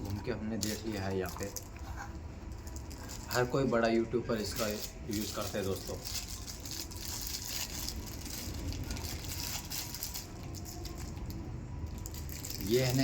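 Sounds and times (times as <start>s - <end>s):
rustling crackling handling noise: 0.0s - 13.0s.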